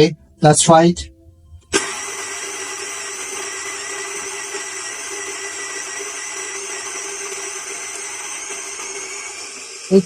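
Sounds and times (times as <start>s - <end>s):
electric coffee grinder whirring: 1.7s - 10.0s.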